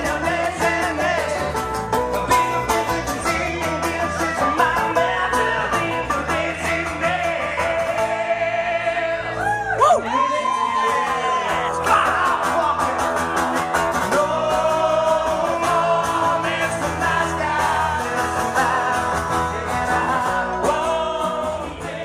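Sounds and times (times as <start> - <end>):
men singing together: 0.0 - 9.4, 10.2 - 22.0
strummed acoustic guitars: 0.0 - 9.5, 10.5 - 22.0.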